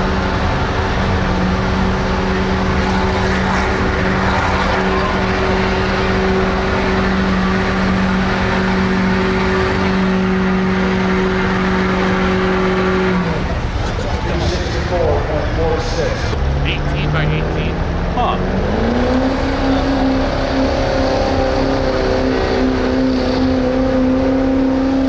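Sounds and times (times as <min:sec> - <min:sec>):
truck engine at full throttle: 0:00.0 - 0:25.0.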